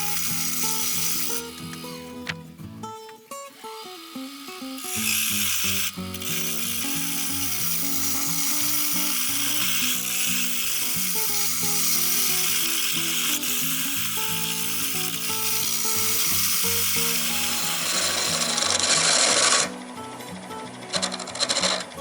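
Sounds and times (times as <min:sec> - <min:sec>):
background music melody: 0:00.0 - 0:22.0
wood lathe hiss: 0:00.0 - 0:22.0.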